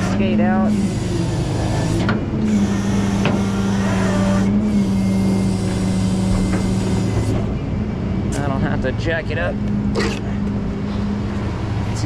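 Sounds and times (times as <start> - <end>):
tow truck engine humming: 0.0 - 12.0.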